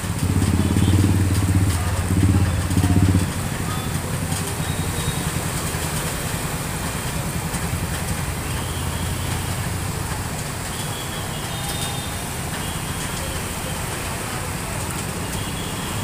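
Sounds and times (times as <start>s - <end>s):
engines humming: 0.0s - 16.0s
vehicles driving through floodwater: 0.0s - 16.0s.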